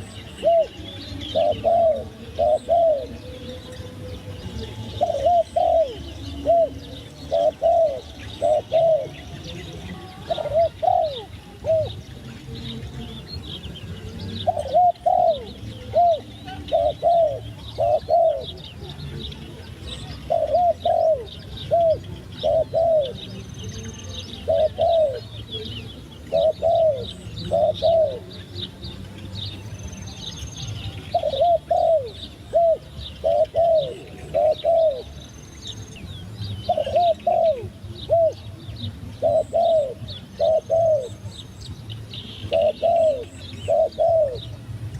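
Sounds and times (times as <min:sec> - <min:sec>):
small birds chirping: 0:00.0 - 0:44.9
turtle dove cooing: 0:00.0 - 0:44.9.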